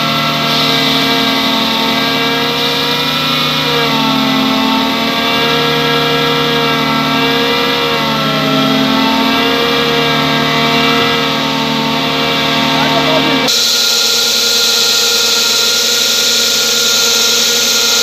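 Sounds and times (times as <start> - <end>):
wire saw whining through concrete: 0.0 - 18.0.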